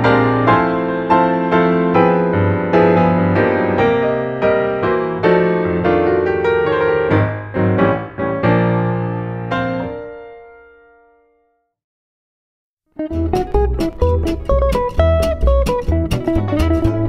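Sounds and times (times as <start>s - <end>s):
piano music: 0.0s - 11.7s, 13.0s - 17.0s.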